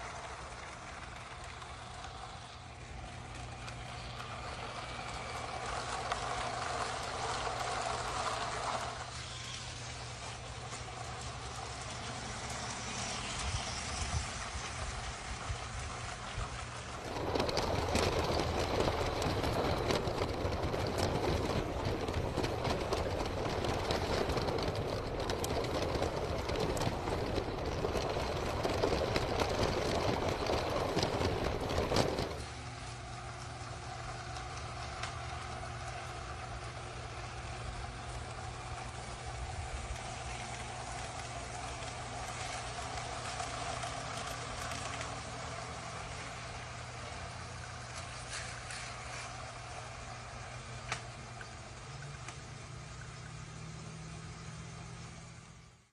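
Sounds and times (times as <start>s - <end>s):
toy train motor whir: 0.0s - 32.6s, 33.9s - 46.4s
wheels clicking over track joints: 0.0s - 53.7s.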